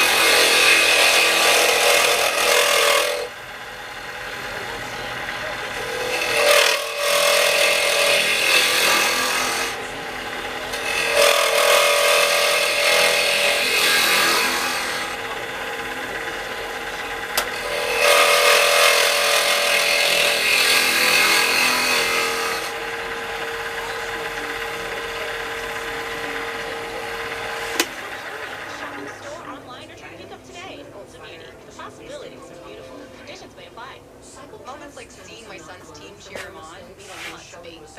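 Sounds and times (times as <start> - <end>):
turning tool scraping wood: 0.0 - 29.5, 36.3 - 37.5
wood lathe humming: 0.0 - 37.9.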